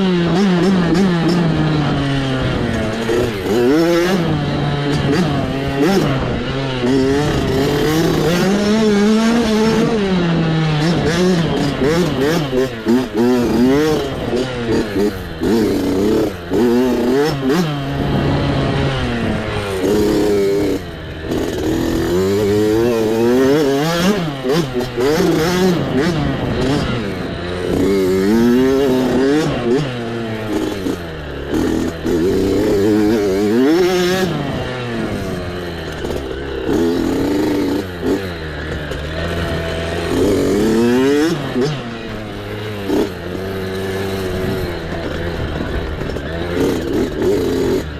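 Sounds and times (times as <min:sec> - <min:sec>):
mini bike engine revving: 0:00.0 - 0:47.9.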